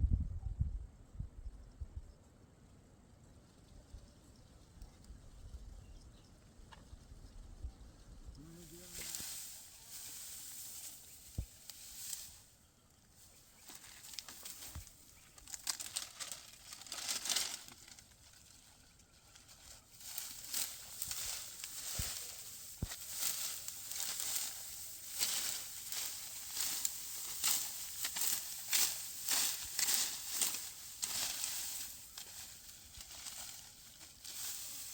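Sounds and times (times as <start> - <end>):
dry stalks crackling and rustling: 6.4 - 34.9.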